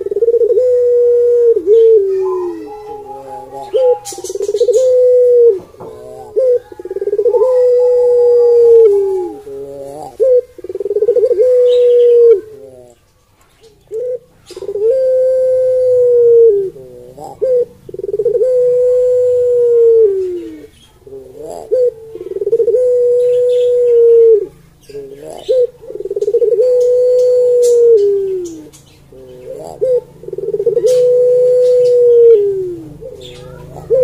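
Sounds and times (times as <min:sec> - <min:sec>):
dove cooing: 0:00.0 - 0:13.1, 0:13.8 - 0:34.0.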